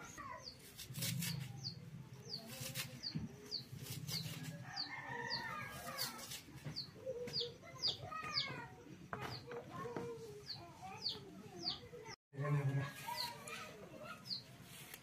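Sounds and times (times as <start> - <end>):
birds chirping: 0.0 - 12.2.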